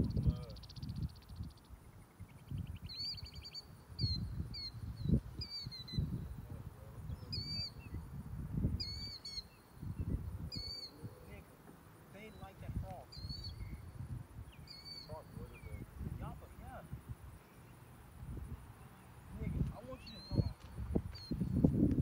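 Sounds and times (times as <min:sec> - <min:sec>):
wind on microphone: 0:00.0 - 0:11.5, 0:12.1 - 0:22.0
buzzy bird trill: 0:00.0 - 0:17.9, 0:18.5 - 0:21.6
small birds chirping: 0:00.0 - 0:22.0.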